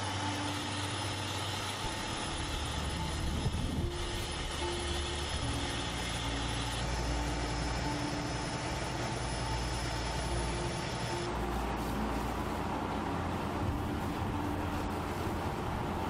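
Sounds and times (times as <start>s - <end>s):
fire engine engine running: 0.0s - 16.0s.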